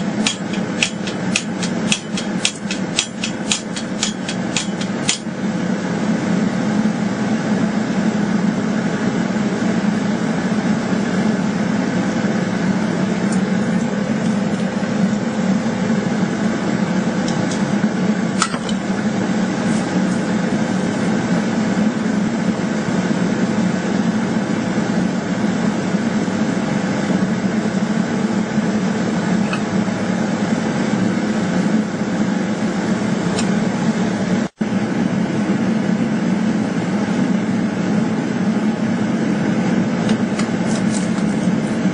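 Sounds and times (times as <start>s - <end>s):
machine running: 0.0s - 41.9s.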